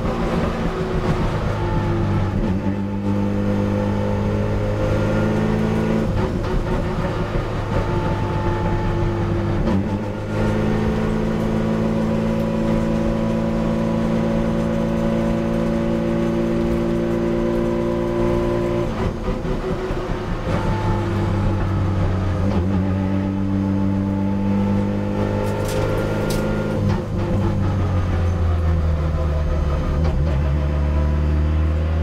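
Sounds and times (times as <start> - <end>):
race car engine running: 0.0 - 32.0.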